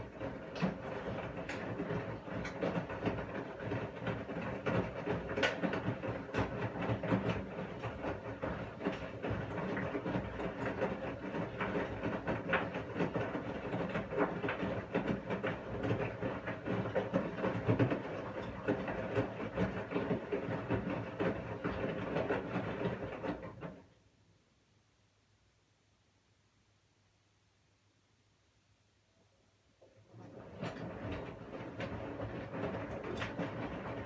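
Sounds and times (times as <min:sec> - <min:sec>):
washing machine motor humming: 0:00.0 - 0:24.0, 0:29.7 - 0:34.0.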